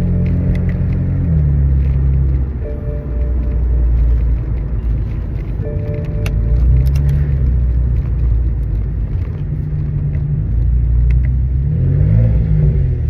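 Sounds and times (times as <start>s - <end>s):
loud deep car exhaust rumble: 0.0s - 13.0s.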